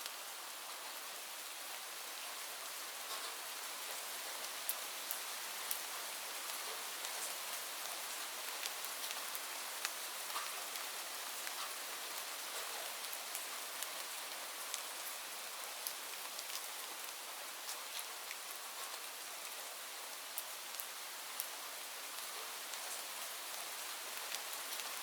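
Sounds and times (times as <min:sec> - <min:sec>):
steady rain falling: 0:00.0 - 0:25.0
raindrops striking a surface: 0:02.2 - 0:25.0.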